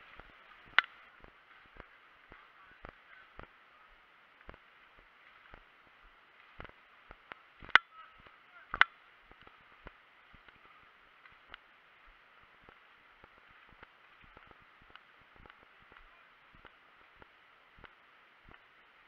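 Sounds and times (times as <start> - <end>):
sharp cracks: 0.0 - 3.6, 4.4 - 18.7
faint ticks and clicks: 0.0 - 19.0
steady hiss: 0.0 - 19.0.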